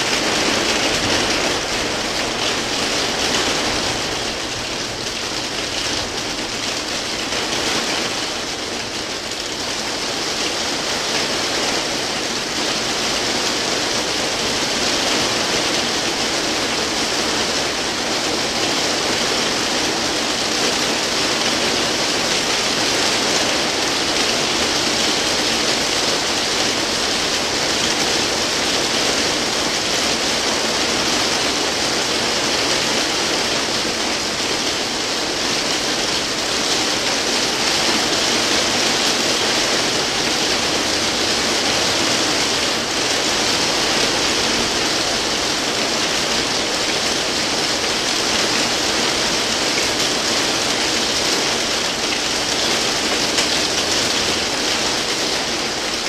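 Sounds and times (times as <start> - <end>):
heavy rain hitting a roof: 0.0 - 56.0.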